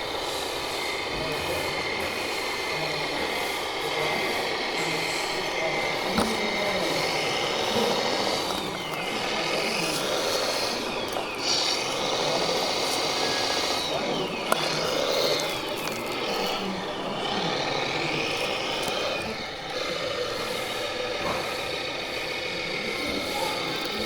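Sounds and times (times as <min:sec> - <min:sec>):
electric motors whining: 0:00.0 - 0:24.0
voices in background: 0:00.0 - 0:24.0.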